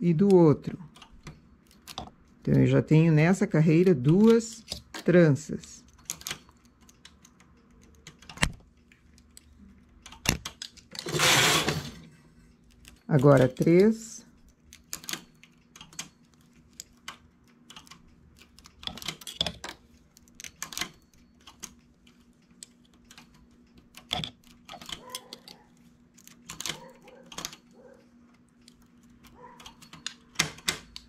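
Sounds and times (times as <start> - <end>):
knitting machine needles clicking: 0.0 - 31.0.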